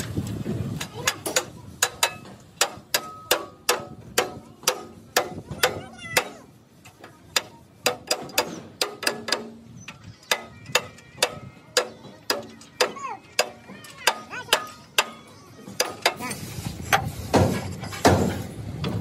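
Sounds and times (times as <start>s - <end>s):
hammer striking steel frame: 0.8s - 19.0s.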